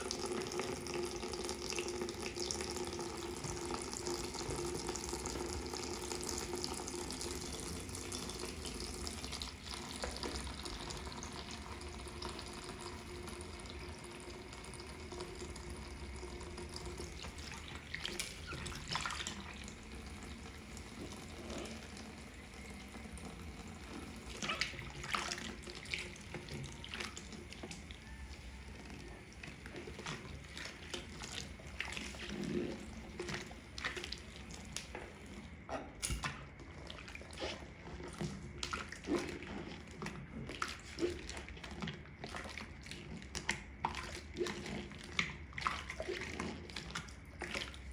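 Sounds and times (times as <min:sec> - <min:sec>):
tap water running into sink: 0:00.0 - 0:47.9.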